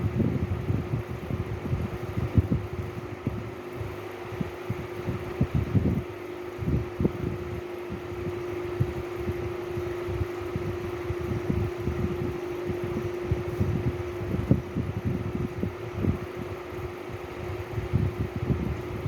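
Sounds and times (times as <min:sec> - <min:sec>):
fan humming: 0:00.0 - 0:19.0.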